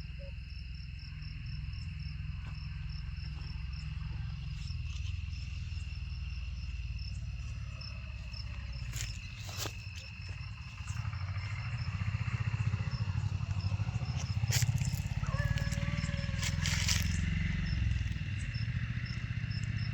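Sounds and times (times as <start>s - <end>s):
crickets trilling: 0.0s - 19.9s.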